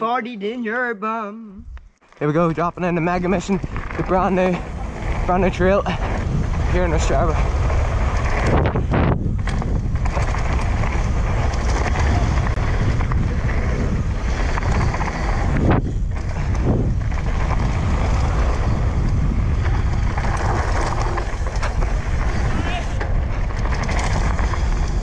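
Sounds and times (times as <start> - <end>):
wind buffeting microphone: 1.6 - 25.0
low rumble from bike: 1.8 - 25.0.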